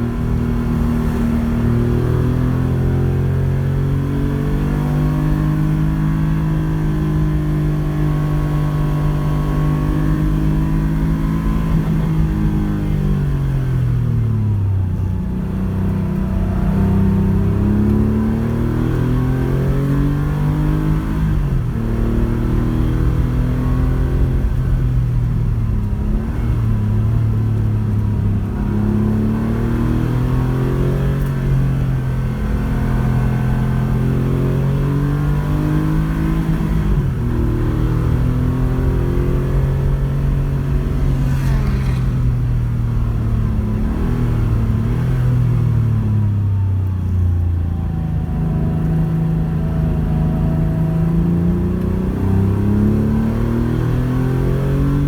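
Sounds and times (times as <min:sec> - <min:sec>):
rally car engine driven hard: 0:00.0 - 0:55.0.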